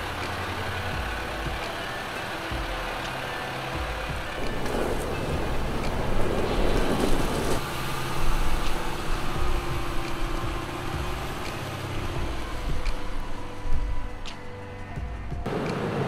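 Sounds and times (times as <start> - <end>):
tyres crunching over gravel: 0.0 - 14.2
diesel truck engine: 0.0 - 16.0.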